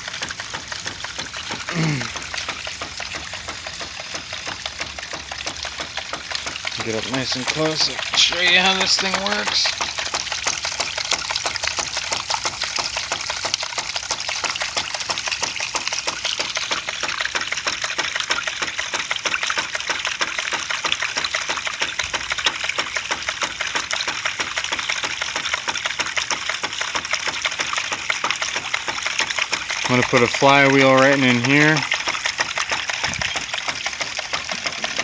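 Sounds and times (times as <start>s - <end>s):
water splashing: 0.0s - 35.0s.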